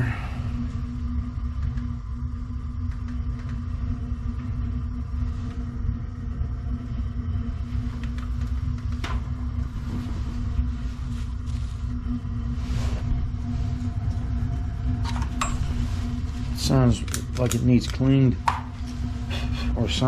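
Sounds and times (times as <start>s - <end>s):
gas burner rumble: 0.0s - 20.0s.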